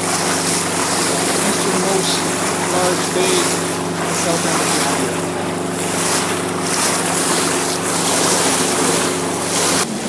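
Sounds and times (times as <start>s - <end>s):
boat diesel engine running: 0.0s - 10.0s
wind and water rushing: 0.0s - 10.0s.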